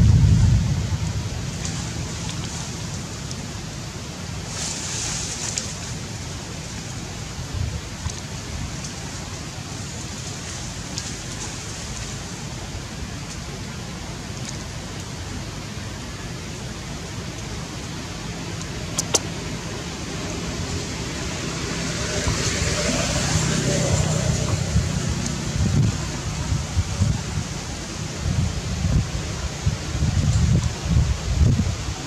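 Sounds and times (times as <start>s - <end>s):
steady background hiss: 0.0s - 32.0s.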